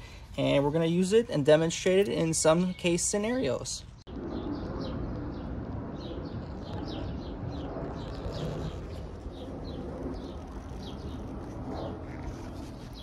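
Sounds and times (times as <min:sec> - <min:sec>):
bird chirping: 0:01.7 - 0:13.0.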